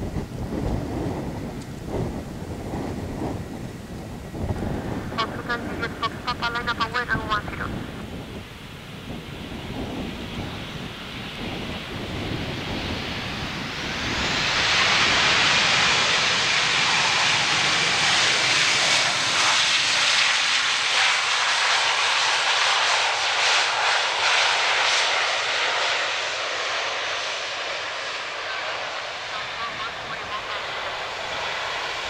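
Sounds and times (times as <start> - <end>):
jet engines rushing on landing: 0.0 - 32.0.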